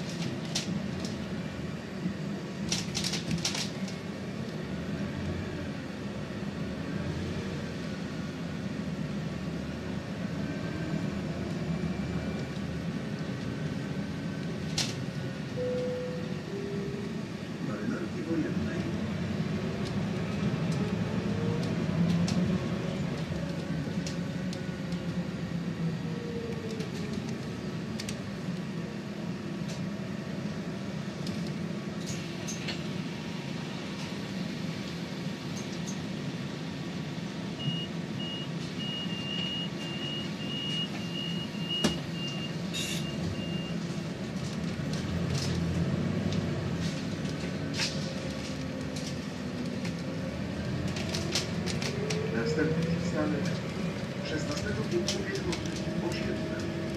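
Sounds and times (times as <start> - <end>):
bus engine rumble: 0.0 - 56.9.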